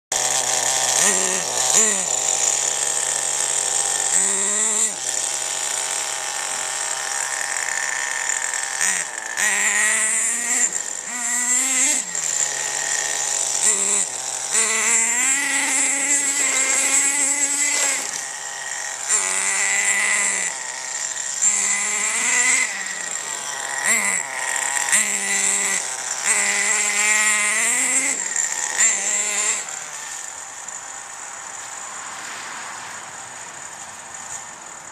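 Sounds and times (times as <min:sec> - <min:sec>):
small nitro engine revving: 0:00.1 - 0:34.9.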